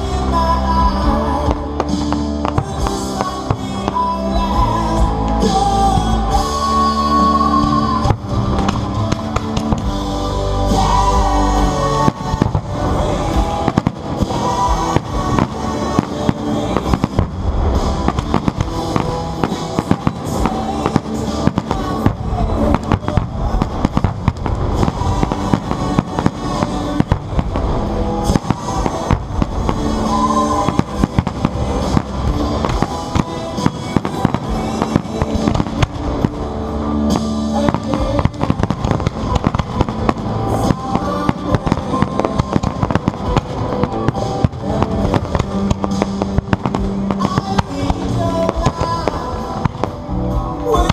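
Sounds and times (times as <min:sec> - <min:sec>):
fireworks bursting: 0:00.0 - 0:50.9
loud music with drum beat: 0:00.0 - 0:50.9.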